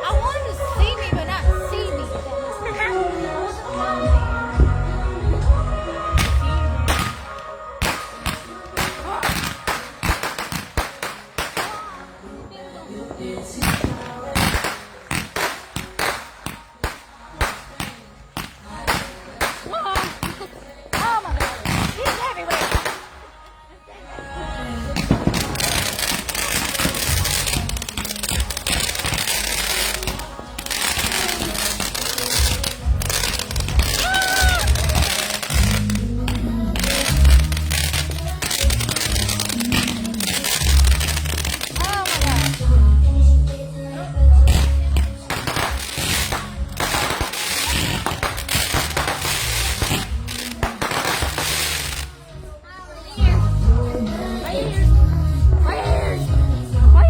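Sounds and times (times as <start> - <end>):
fireworks crackling: 0.0 - 54.6
music playing: 0.0 - 57.0.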